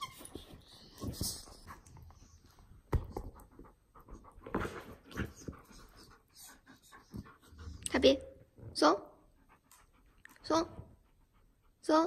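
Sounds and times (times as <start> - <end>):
dog panting: 0.4 - 12.0.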